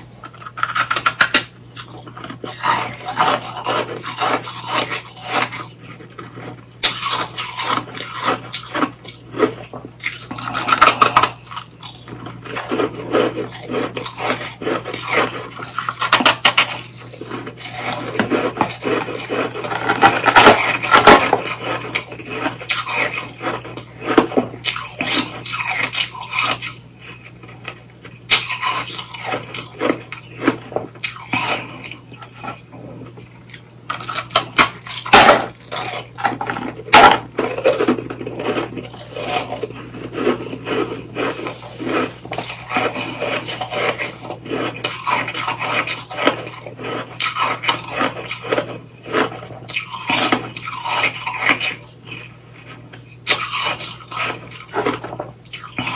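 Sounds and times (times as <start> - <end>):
ice cracking and crunching: 0.3 - 26.8, 28.3 - 32.6, 33.5 - 52.3.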